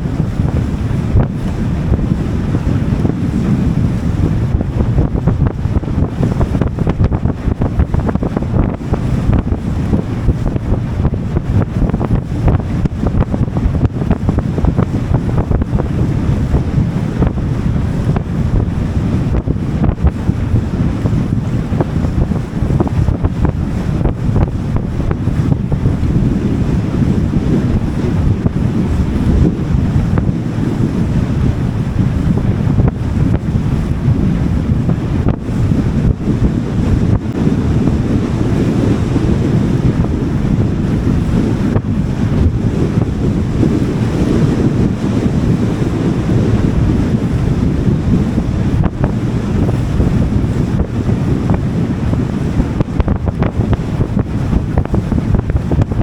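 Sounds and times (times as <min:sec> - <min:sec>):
water noise: 0:00.0 - 0:56.0
wind buffeting microphone: 0:00.0 - 0:56.0.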